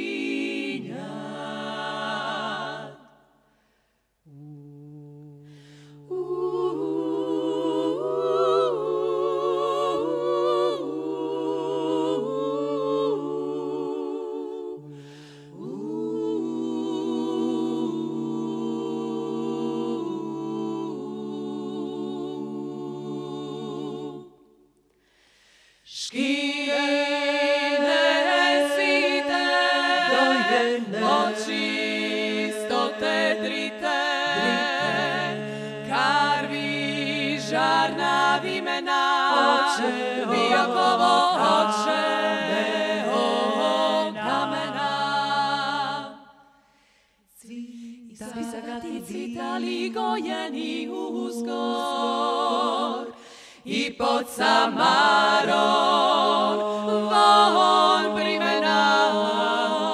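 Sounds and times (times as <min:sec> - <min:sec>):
women singing in close harmony: 0:00.0 - 0:03.3, 0:04.2 - 0:24.6, 0:25.9 - 0:46.5, 0:47.3 - 0:59.9.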